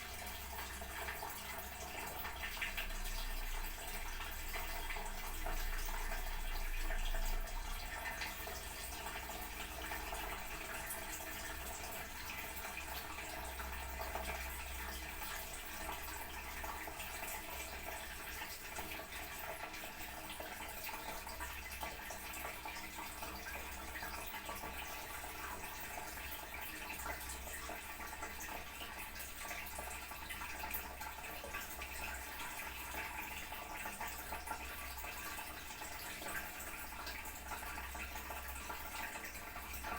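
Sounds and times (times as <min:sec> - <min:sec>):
toilet cistern refilling: 0:00.0 - 0:39.9.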